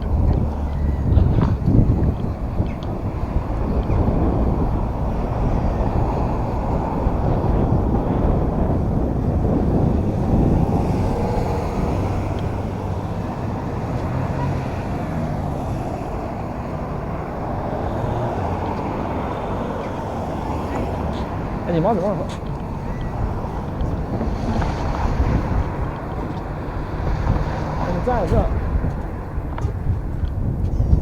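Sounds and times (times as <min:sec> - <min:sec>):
boat engine running: 0:00.0 - 0:31.0
wind rumbling on microphone: 0:00.0 - 0:31.0.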